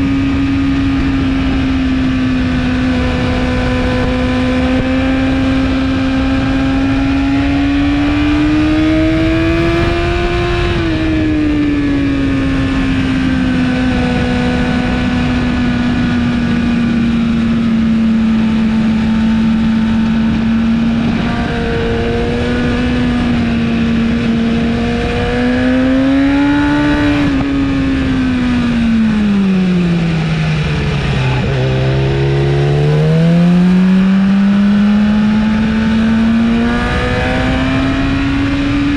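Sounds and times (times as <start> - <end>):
motorcycle engine at high revs: 0.0 - 38.9
wind rush on microphone: 0.0 - 38.9.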